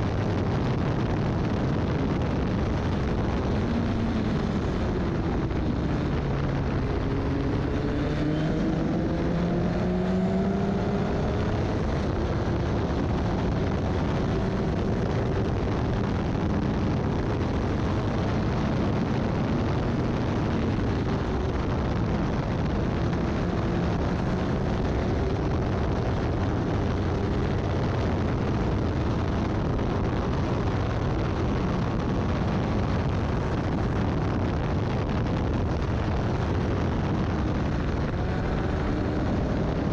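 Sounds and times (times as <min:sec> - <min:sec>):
race car engine: 0:00.0 - 0:39.9
wind and road noise: 0:00.0 - 0:39.9.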